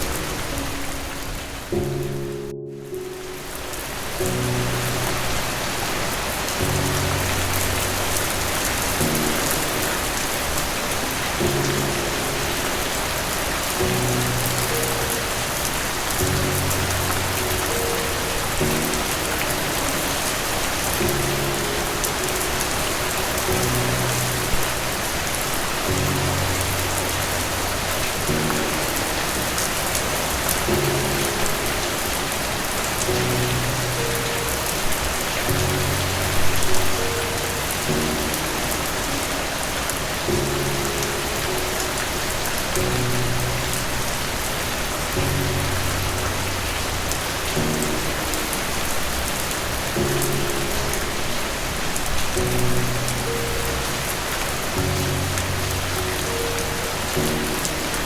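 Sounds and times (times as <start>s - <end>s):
soft low musical chords: 0.0s - 58.0s
steady rain falling: 0.0s - 58.0s.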